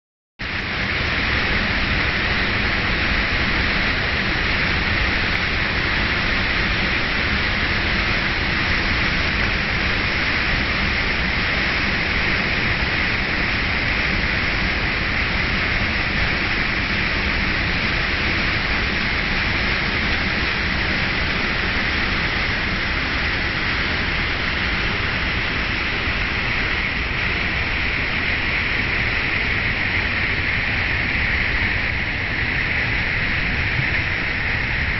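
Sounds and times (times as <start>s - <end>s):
waterfall: 0.4s - 34.9s.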